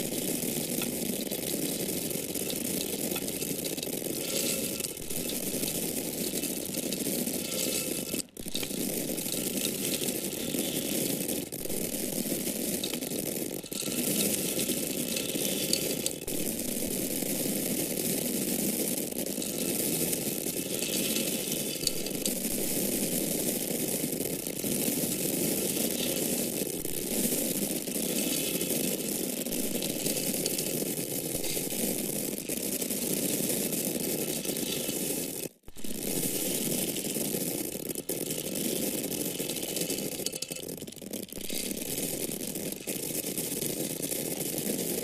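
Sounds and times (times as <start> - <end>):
dry corn kernels falling: 0.0 - 45.0.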